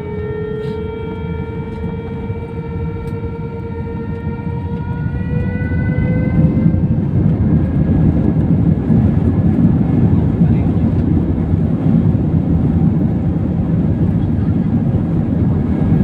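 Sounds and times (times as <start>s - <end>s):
jet engine low rumble: 0.0s - 16.0s
jet engine whine: 0.0s - 16.0s.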